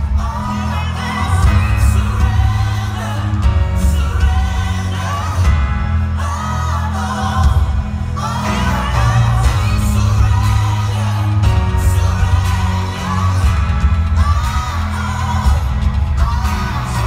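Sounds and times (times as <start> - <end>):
loud steady bass line: 0.0 - 17.0
person singing: 0.0 - 17.0.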